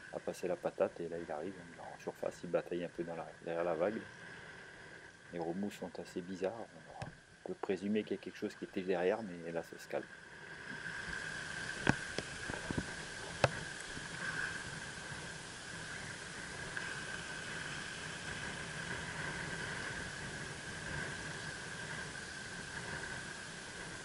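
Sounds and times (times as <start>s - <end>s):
constant high hum: 0.0s - 24.0s
wind and surf: 0.0s - 24.0s.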